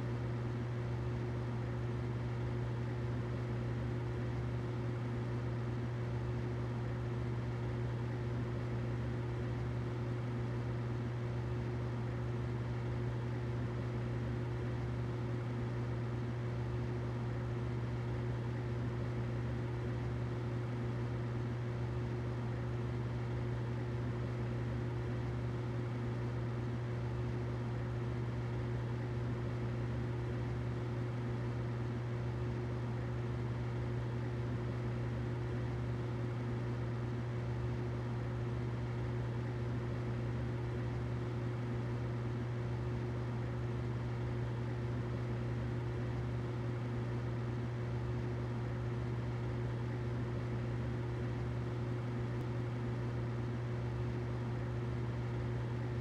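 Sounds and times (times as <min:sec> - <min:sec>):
humidifier humming and hissing: 0:00.0 - 0:56.0.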